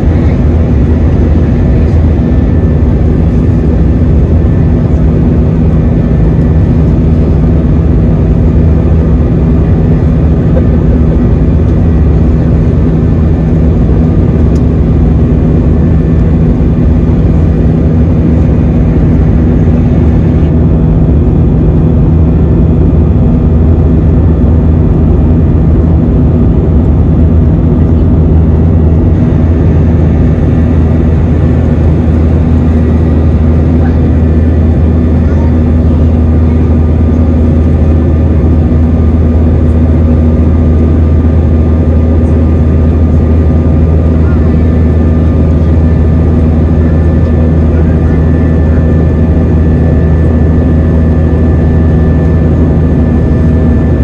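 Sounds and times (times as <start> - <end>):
jet engine drone in cabin: 0.0 - 54.0.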